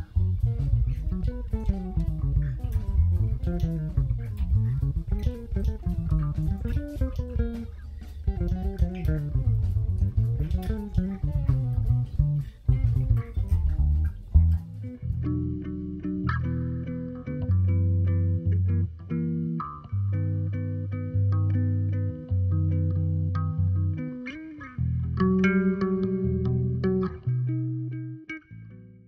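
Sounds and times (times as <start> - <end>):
electric bass fingerstyle runs: 0.0 - 29.0.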